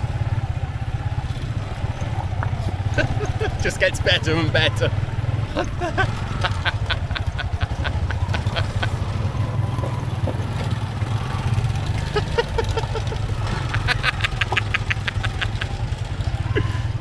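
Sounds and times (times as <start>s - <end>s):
motorbike engine droning: 0.0s - 17.0s.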